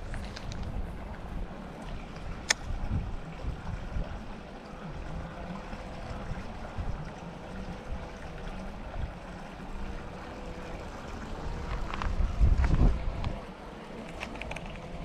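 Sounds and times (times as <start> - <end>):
faint steady hum: 0.0 - 15.0
wind rumbling on microphone: 0.0 - 15.0.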